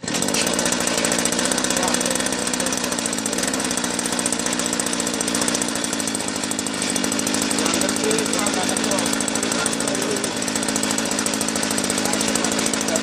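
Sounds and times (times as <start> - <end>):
tiller engine running: 0.0 - 13.0.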